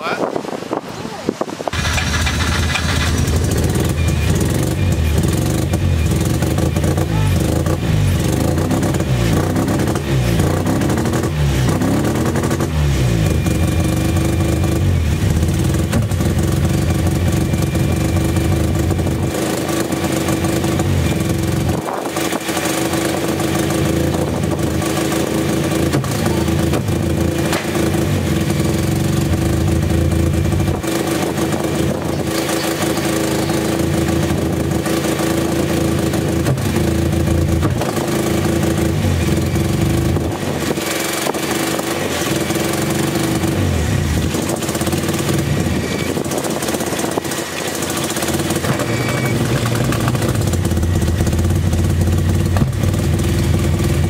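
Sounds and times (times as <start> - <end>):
rotary engine revving: 1.7 - 54.0.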